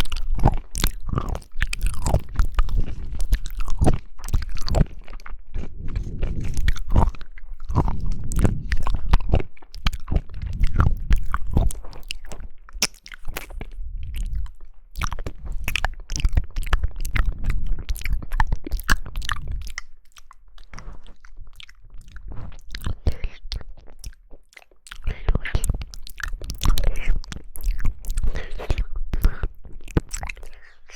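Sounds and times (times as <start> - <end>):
person chewing jelly: 0.0 - 30.9
wet clicks and crunchy bites: 0.0 - 30.9.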